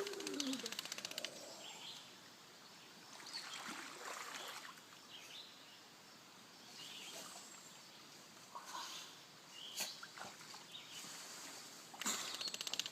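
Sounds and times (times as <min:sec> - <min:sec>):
outdoor background noise: 0:00.0 - 0:12.9.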